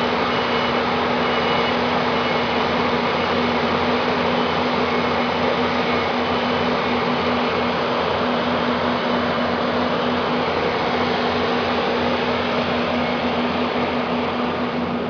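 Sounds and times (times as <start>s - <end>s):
machine drone: 0.0s - 15.0s.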